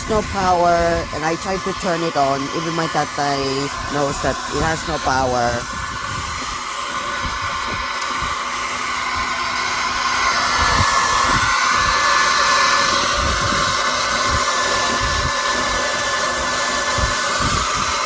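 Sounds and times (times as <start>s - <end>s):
hair dryer whining: 0.0s - 18.0s.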